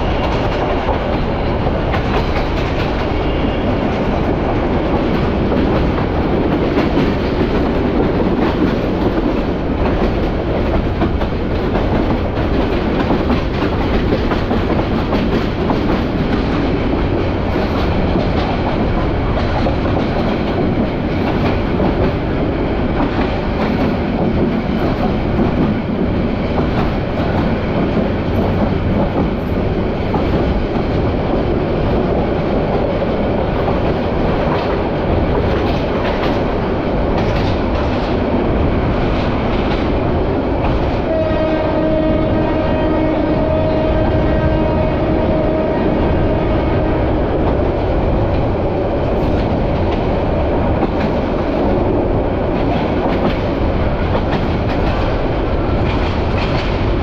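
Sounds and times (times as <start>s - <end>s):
train rumble and rattle: 0.0s - 57.0s.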